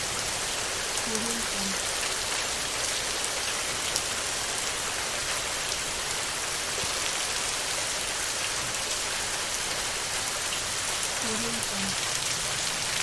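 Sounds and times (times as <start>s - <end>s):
heavy rainfall: 0.0s - 13.0s.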